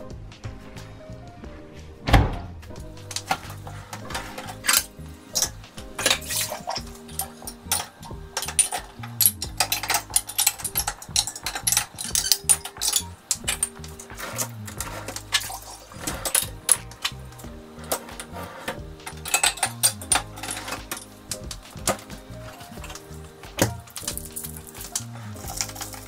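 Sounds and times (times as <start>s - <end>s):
dishes clattering in racks: 3.1s - 26.0s.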